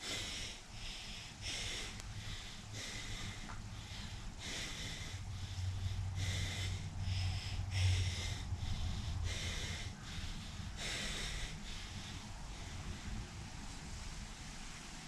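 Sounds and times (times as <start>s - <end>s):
man breathing hard: 0.0s - 13.6s
steady low hum: 0.0s - 15.0s.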